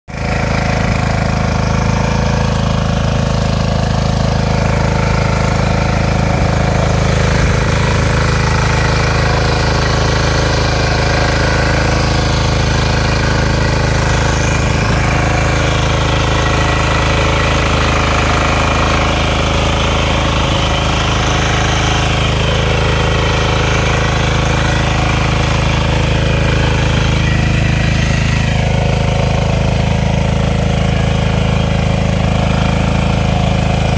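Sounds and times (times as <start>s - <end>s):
small tiller engine running: 0.1s - 33.9s.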